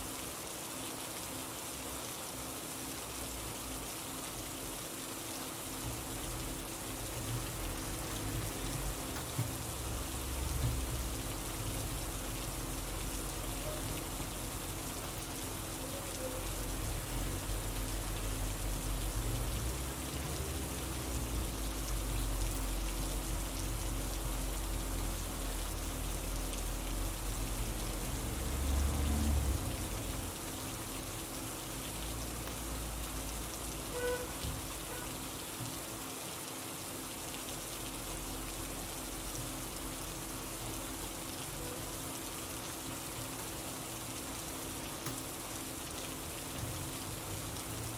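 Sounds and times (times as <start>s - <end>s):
rain patter: 0.0s - 47.9s.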